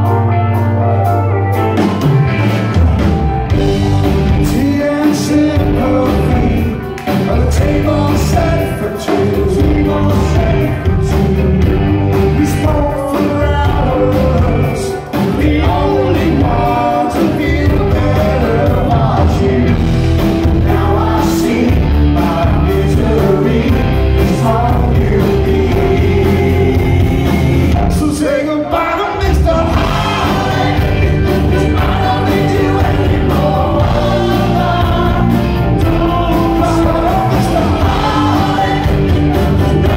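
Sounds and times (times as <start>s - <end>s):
live rock band playing: 0.0s - 39.9s
lead singer singing: 3.7s - 39.9s
backing vocals: 4.0s - 39.9s.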